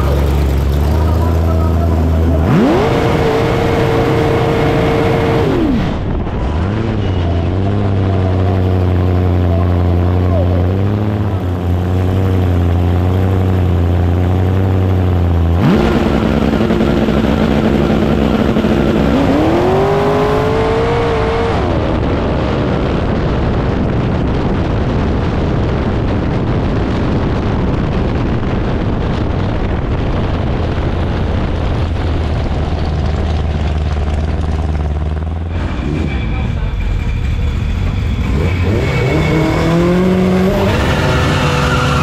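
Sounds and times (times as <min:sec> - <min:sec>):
drag car engine: 0:00.0 - 0:42.0
rising supercharger whine: 0:00.0 - 0:42.0.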